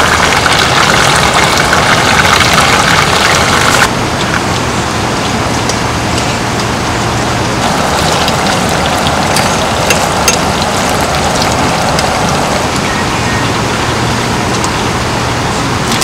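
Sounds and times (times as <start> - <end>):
rain on tent fabric: 0.0 - 16.0.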